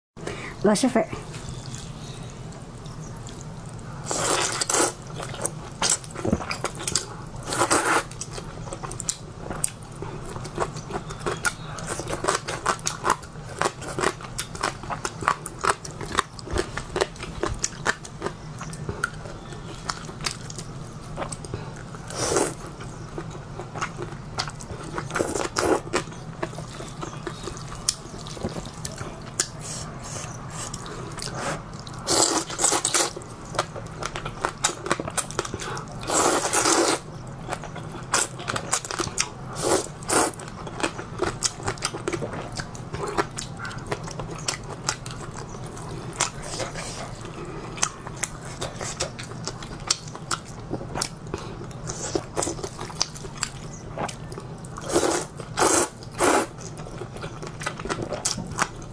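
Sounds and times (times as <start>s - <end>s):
person chewing noodles: 1.3s - 58.9s.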